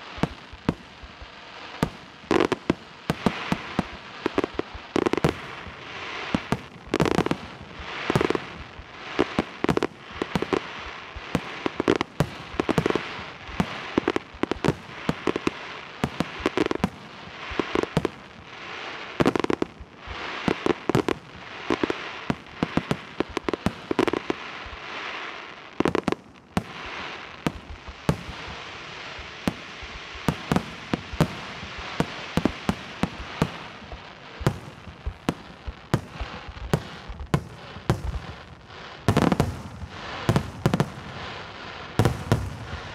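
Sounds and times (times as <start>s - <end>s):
firework crackle: 0.0s - 42.9s.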